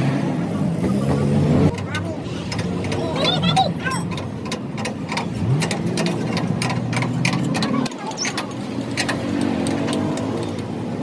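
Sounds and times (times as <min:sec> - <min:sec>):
engine running: 0:00.0 - 0:11.0
sharp metallic clicks and knocks: 0:01.7 - 0:11.0.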